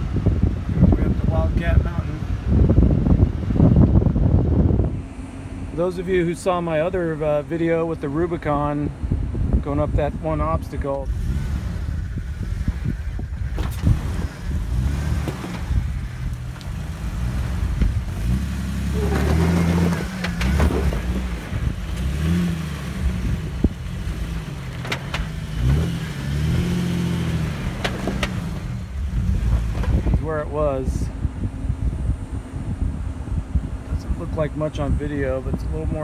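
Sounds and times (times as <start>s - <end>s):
pickup engine pulling: 0.0s - 36.0s.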